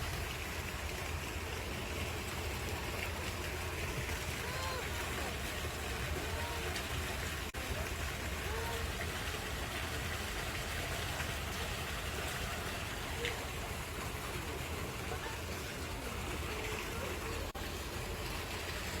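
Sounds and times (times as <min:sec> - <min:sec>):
rushing outdoor noise: 0:00.0 - 0:19.0
faint distant voices: 0:03.0 - 0:19.0.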